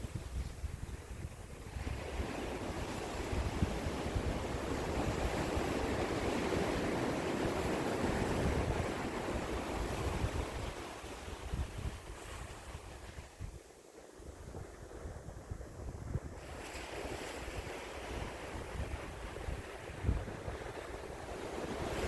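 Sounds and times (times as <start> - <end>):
sea waves on shore: 0.0 - 22.0
wind buffeting microphone: 0.0 - 22.0.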